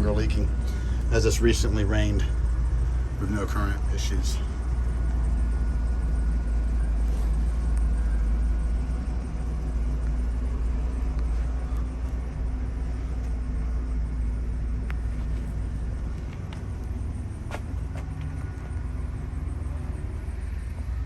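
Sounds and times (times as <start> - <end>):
faint hum: 0.0 - 21.0
low engine drone: 0.0 - 21.0.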